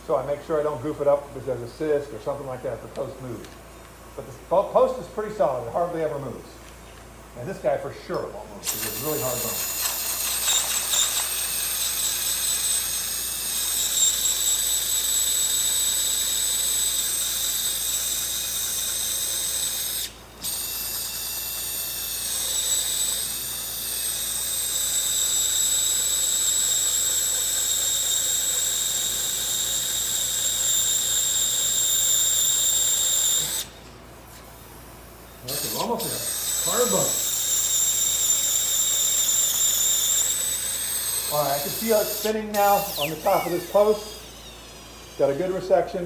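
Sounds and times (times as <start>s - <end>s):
surgical drill whining: 0.0s - 46.0s.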